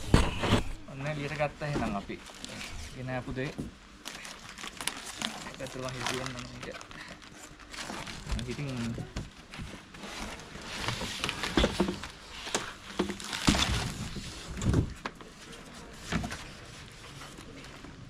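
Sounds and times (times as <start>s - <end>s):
bubble wrap and cardboard rustling: 0.3s - 18.0s.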